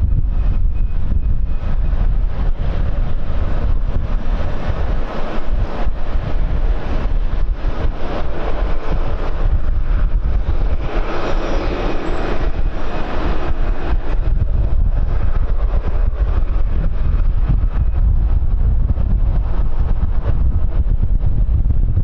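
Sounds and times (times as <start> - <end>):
jet engines passing: 0.0 - 22.0
wind buffeting microphone: 0.0 - 22.0.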